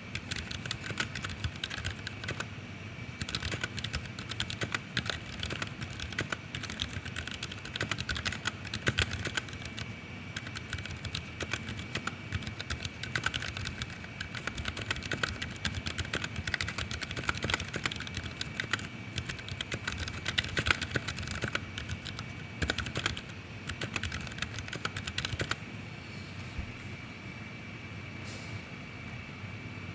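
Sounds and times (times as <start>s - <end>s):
fast mechanical keyboard typing: 0.0s - 2.5s, 3.1s - 25.6s.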